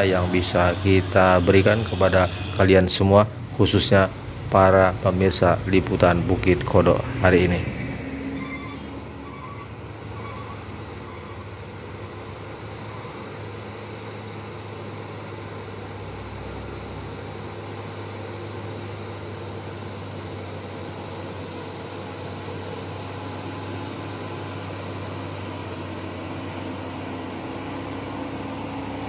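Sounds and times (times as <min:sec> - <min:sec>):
diesel truck engine droning: 0:00.0 - 0:29.0.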